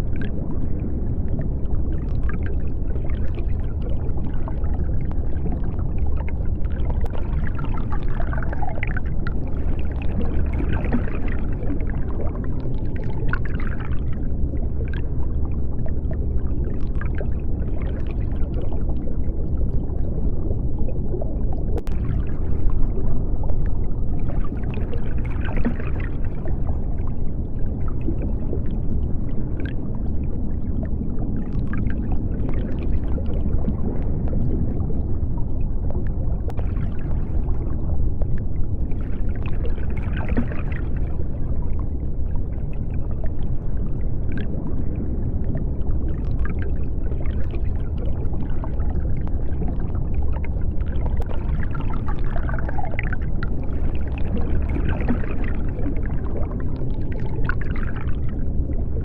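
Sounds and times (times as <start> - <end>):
bubbling and gurgling: 0.0 - 59.0
deep underwater rumble: 0.0 - 59.0.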